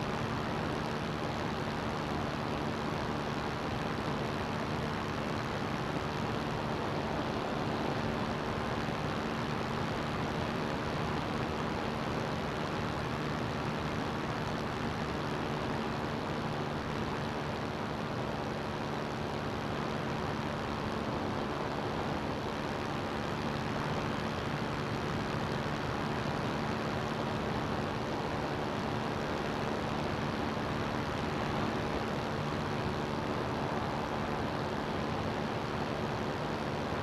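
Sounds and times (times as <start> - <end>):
aircraft engine drone: 0.0 - 37.0.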